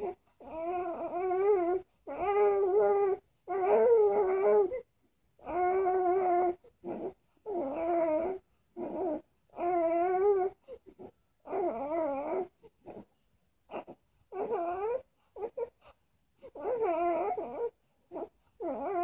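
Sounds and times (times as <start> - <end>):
infant whimpering cries: 0.0 - 13.1, 13.7 - 19.0.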